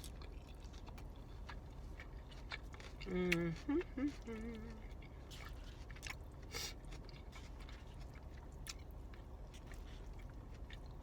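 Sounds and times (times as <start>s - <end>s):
close-up chewing with crunches: 0.0s - 11.0s
low steady hum: 0.0s - 11.0s.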